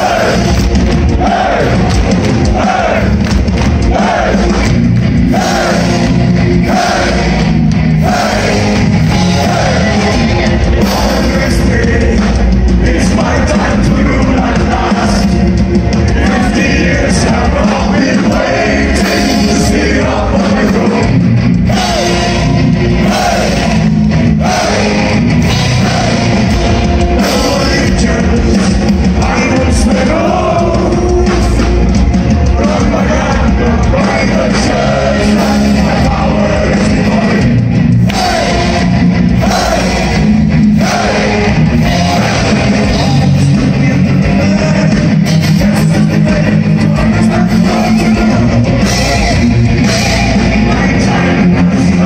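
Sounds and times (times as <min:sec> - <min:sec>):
drums: 0:00.0 - 0:52.0
electric guitar: 0:00.0 - 0:52.0
man singing lead vocal: 0:08.0 - 0:23.8, 0:24.4 - 0:52.0.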